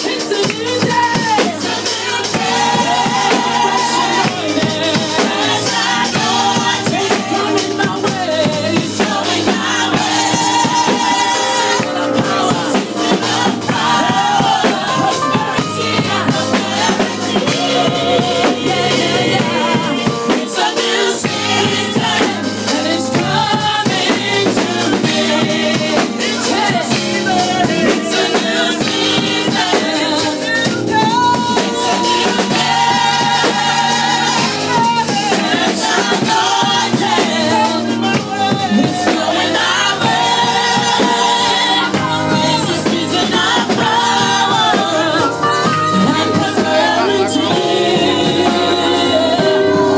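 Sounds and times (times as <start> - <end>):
drum kit steady beat: 0.0 - 49.9
voices singing: 0.0 - 49.9.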